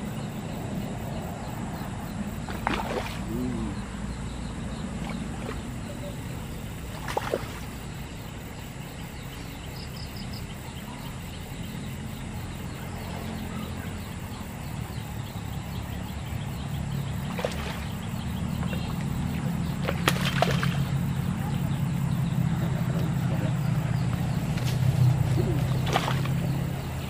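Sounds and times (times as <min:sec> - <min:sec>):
low engine drone: 0:00.0 - 0:27.0.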